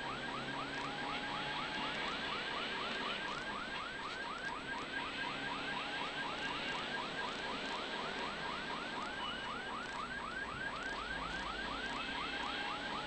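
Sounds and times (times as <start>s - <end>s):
electronic warning siren yelping: 0.0s - 13.0s
faint car running noise: 0.0s - 13.0s.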